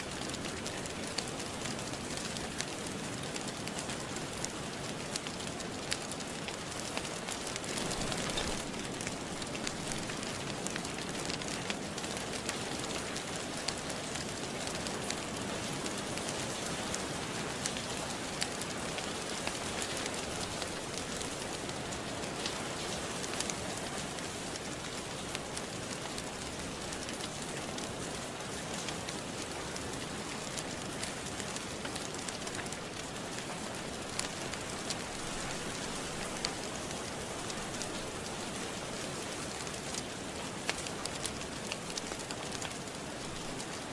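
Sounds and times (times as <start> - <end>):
steady rain hiss: 0.0 - 43.9
fireplace crackling: 0.1 - 16.6, 17.5 - 43.9.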